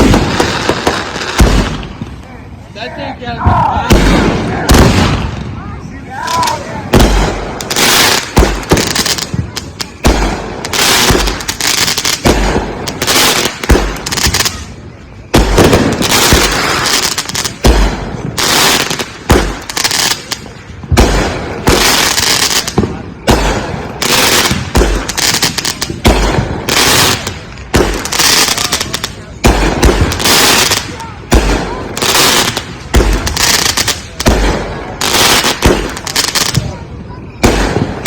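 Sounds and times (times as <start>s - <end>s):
fireworks booming: 0.0s - 38.0s
fireworks crackling: 0.0s - 38.0s.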